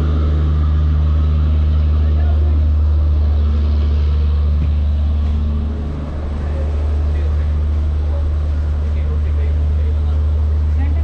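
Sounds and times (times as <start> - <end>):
idling train engine drone: 0.0 - 11.0.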